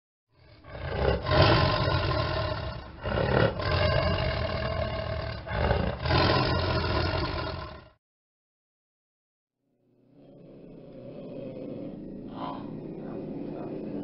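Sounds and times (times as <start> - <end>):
tiger roaring: 0.3 - 8.0, 10.1 - 14.0.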